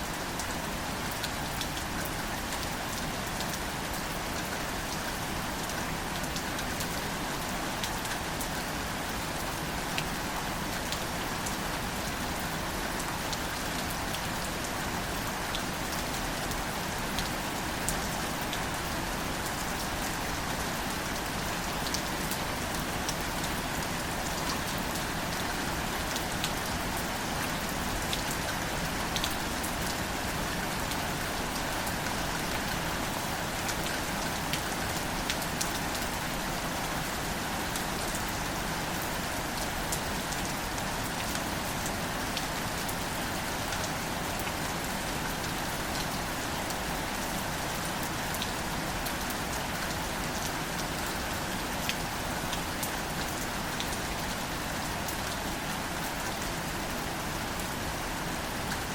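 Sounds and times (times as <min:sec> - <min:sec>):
rain pattering on foliage: 0:00.0 - 0:58.9.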